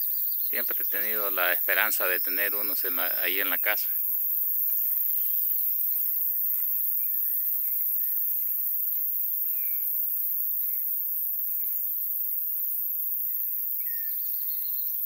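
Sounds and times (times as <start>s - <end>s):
small birds chirping: 0.0s - 8.8s, 9.4s - 12.4s, 13.2s - 15.0s
steady high hiss: 0.0s - 15.0s.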